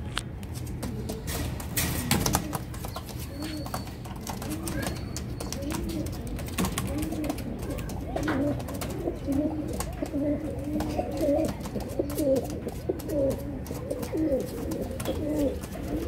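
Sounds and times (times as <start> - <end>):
pigeons cooing: 0.8 - 16.0.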